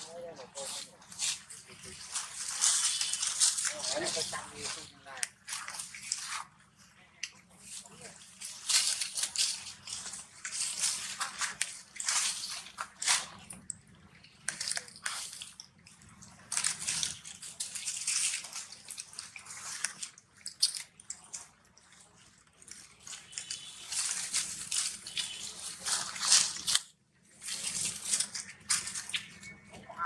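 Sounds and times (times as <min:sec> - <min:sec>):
rustling dry leaves: 0:00.0 - 0:30.0
monkey crunching coconut: 0:00.5 - 0:06.6, 0:07.2 - 0:29.8.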